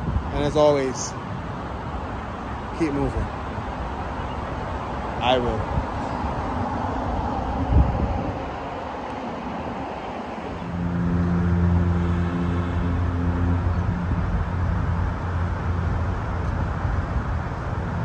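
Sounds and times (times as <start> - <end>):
road traffic engine hum: 0.0 - 18.0.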